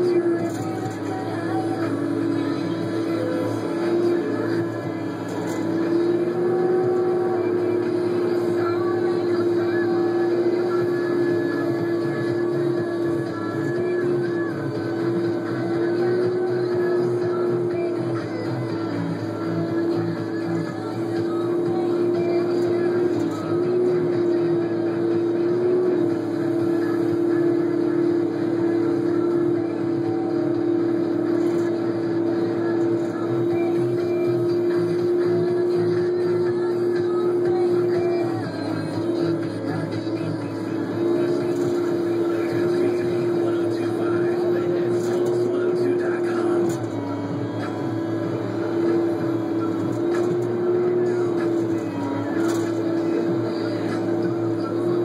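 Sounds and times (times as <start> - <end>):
diesel engine and hydraulics running: 0.0 - 55.0.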